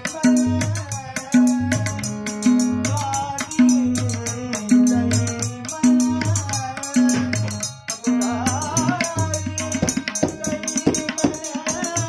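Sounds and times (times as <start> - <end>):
person singing: 0.0 - 12.0
tabla playing: 0.0 - 12.0.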